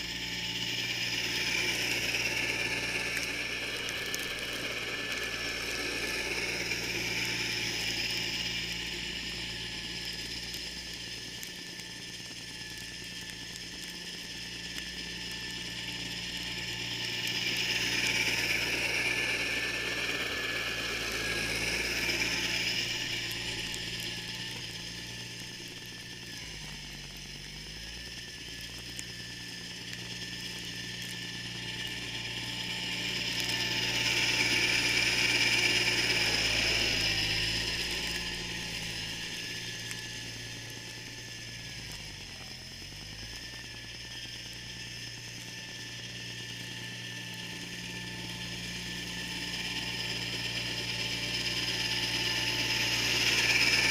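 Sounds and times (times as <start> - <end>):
garden tractor engine: 0.0 - 53.9
snowblower mechanical clatter: 0.0 - 53.9.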